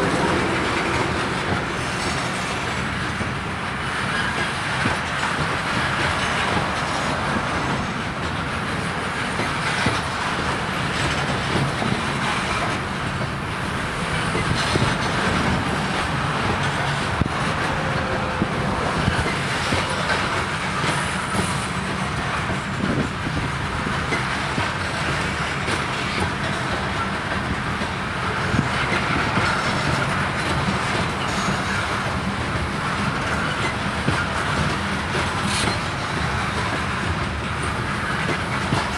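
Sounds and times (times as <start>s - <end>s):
freight train rolling past: 0.0s - 38.9s
wheels clicking over rail joints: 0.0s - 38.9s.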